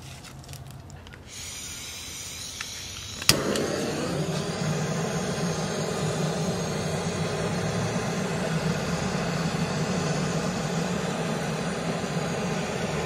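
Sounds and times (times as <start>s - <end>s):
gas torch flame hissing roar: 1.3s - 13.0s.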